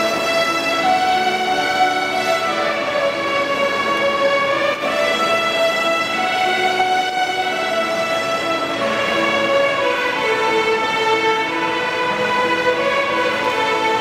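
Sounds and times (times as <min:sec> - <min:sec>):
children's violins playing a melody: 0:00.0 - 0:14.0.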